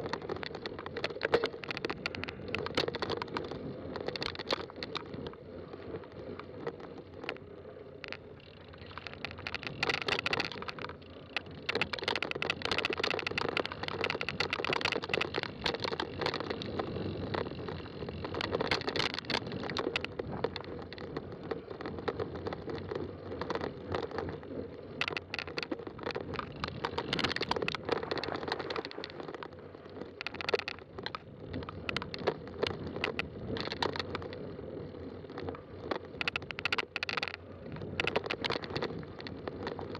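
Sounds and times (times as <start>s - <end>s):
bike tyres crunching on trail: 0.0s - 39.9s
crackling and rattling: 0.0s - 39.9s.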